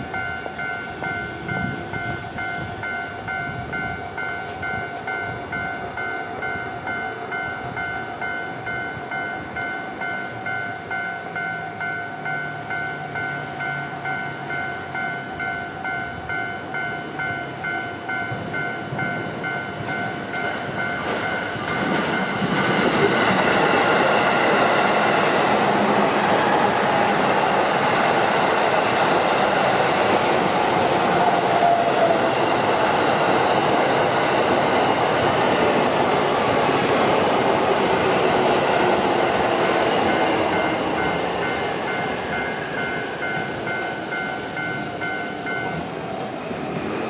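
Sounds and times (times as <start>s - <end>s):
crossing alarm bell ringing: 0.0s - 46.1s
train passing running noise: 0.0s - 47.0s.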